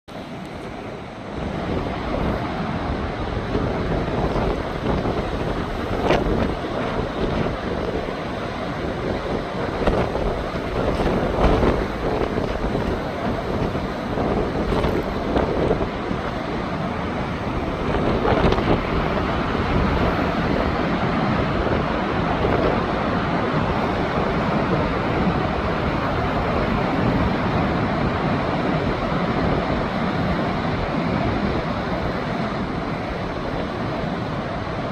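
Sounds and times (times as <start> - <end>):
ocean surf: 0.1 - 34.9
wind gusting across microphone: 0.1 - 34.9.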